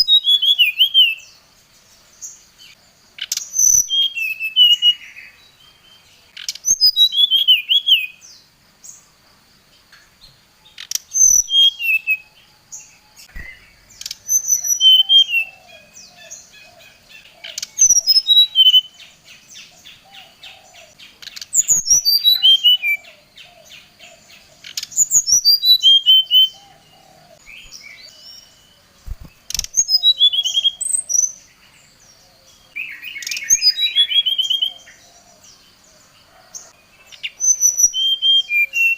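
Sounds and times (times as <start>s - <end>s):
bird whistling song: 0.0s - 1.4s, 3.2s - 8.3s, 10.2s - 35.4s, 36.6s - 38.9s.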